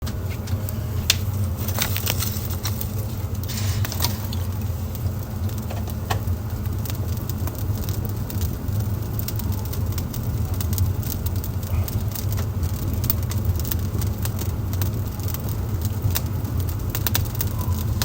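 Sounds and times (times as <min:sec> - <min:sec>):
wood fire crackling and popping: 0:00.0 - 0:18.0
fire hiss: 0:00.3 - 0:18.0.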